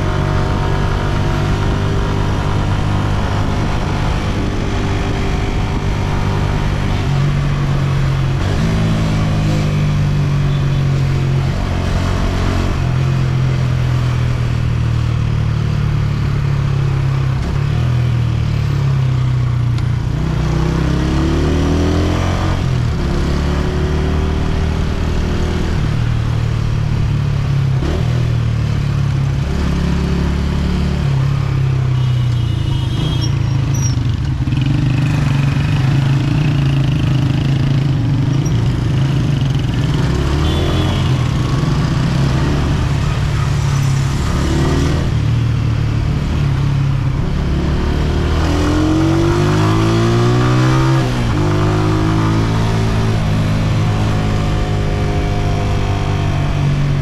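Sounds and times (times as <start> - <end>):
motorcycle engine revving: 0.0 - 18.6, 27.8 - 57.0.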